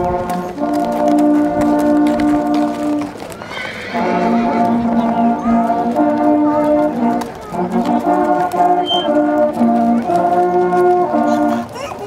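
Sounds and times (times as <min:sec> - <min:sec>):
brass band playing a hymn: 0:00.0 - 0:11.8.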